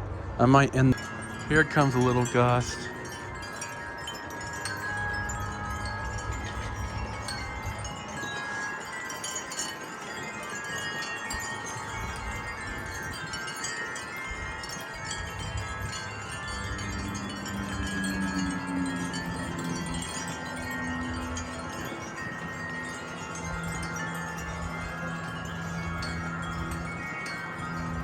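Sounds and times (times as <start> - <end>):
wind rumble on microphone: 0.0 - 28.0
wind chimes ringing: 0.2 - 28.0.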